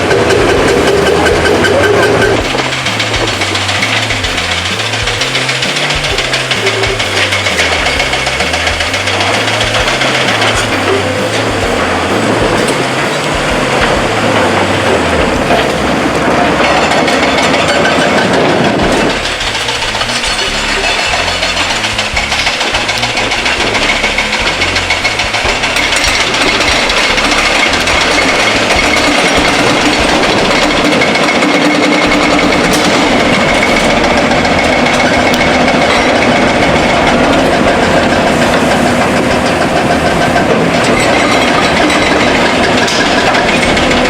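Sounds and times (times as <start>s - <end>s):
diesel engine working: 0.0s - 44.0s
rapid metallic clatter: 0.0s - 44.0s.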